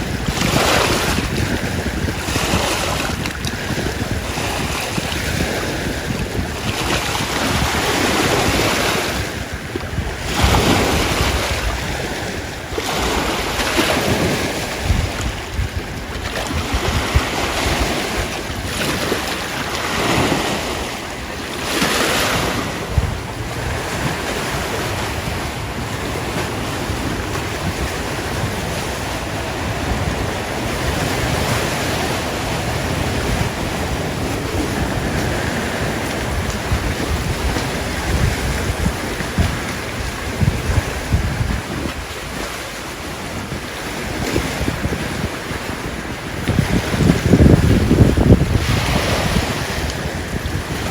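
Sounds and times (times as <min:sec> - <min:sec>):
waves rushing: 0:00.0 - 0:50.9
wind on microphone: 0:00.0 - 0:50.9.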